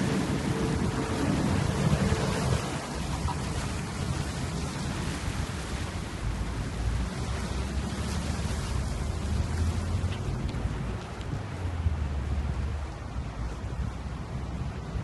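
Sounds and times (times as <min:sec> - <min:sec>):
fast-flowing water: 0:00.0 - 0:15.0
wind: 0:00.0 - 0:15.0
wind buffeting microphone: 0:00.0 - 0:15.0.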